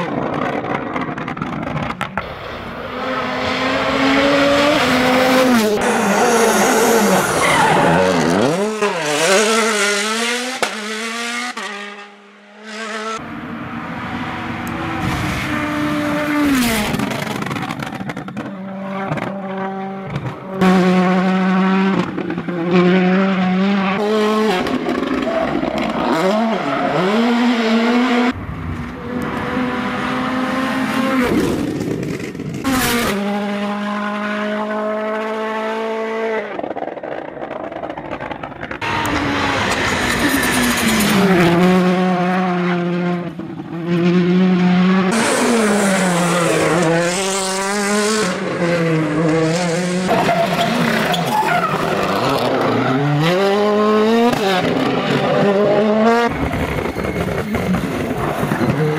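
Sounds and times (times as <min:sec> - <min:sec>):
rally car engines revving: 0:00.0 - 0:58.9.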